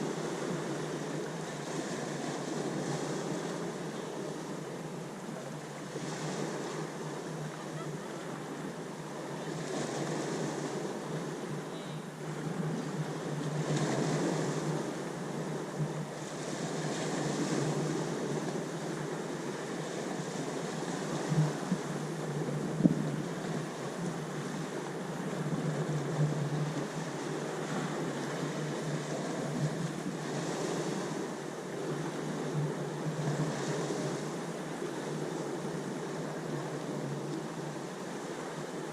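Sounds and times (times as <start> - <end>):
ocean waves washing: 0.0 - 38.9.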